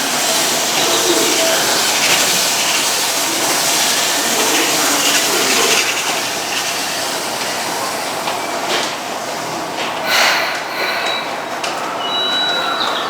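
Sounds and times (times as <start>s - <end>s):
train wheels rushing: 0.0s - 13.0s.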